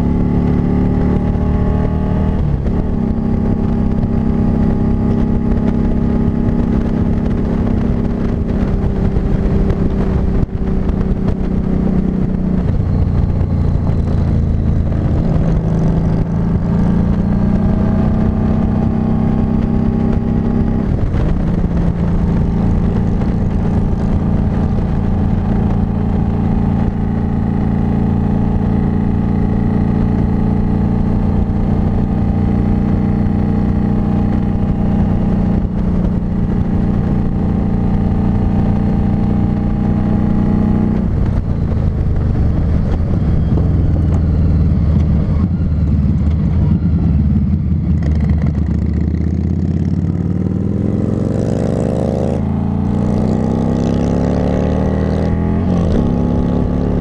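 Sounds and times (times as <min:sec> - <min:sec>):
motorcycle engine at road speed: 0:00.0 - 0:57.0
wind rush over microphone: 0:00.0 - 0:57.0.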